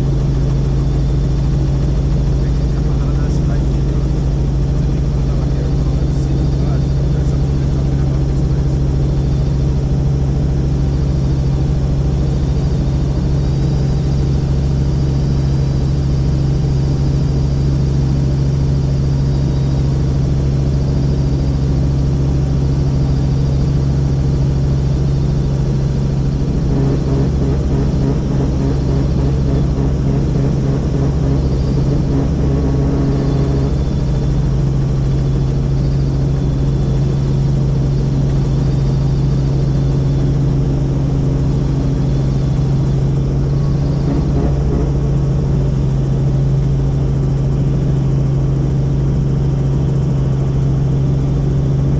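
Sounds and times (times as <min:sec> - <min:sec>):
helicopter engine and rotor drone: 0:00.0 - 0:51.9.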